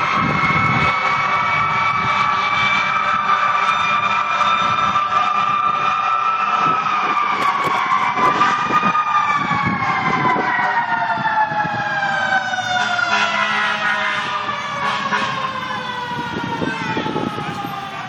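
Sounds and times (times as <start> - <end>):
fire truck siren falling tone: 0.0 - 18.0.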